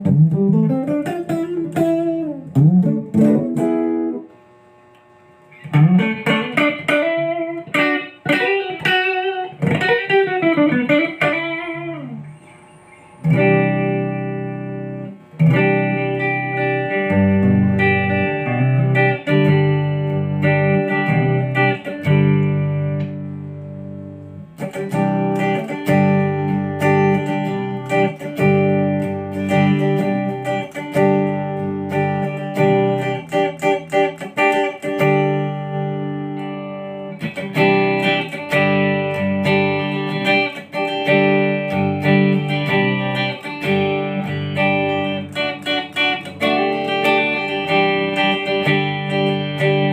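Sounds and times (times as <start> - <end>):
electric guitar chords and picked notes: 0.0 - 49.9.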